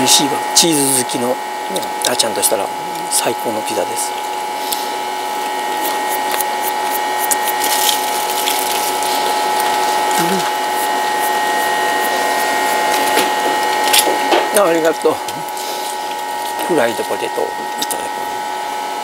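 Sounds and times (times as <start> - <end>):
machine humming and rattling: 0.0 - 19.0.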